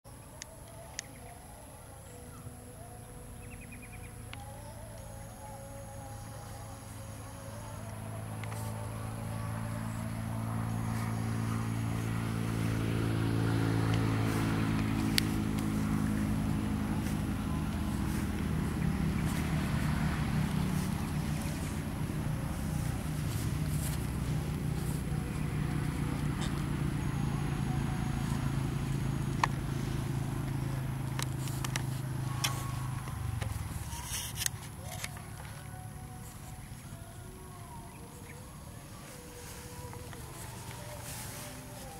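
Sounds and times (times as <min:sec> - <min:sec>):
motor engine running: 0:00.2 - 0:41.9.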